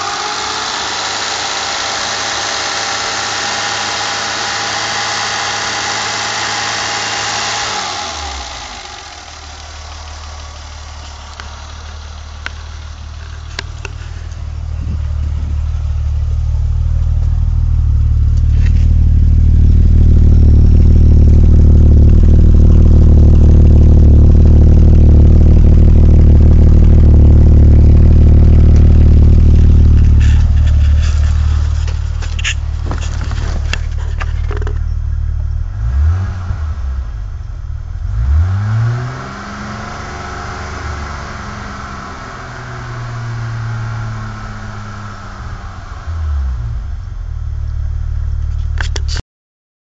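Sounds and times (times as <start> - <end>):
car engine droning: 0.0 - 49.2.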